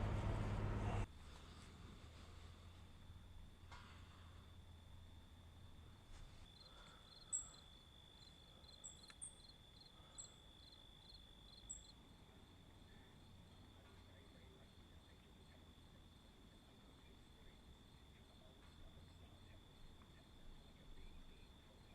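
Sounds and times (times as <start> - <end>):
crickets trilling: 4.2 - 21.9.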